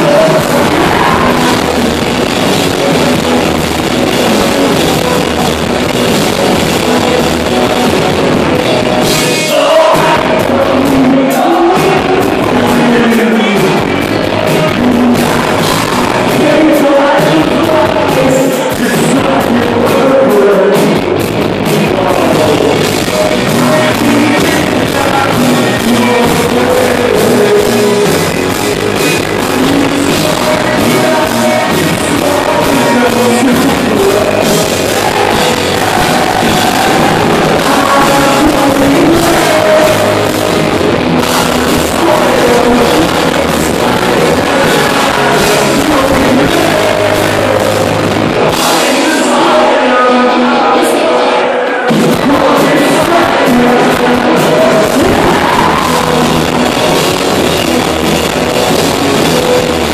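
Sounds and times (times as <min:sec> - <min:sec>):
lead vocal singing: 0:00.0 - 0:59.9
live rock band playing: 0:00.0 - 0:59.9.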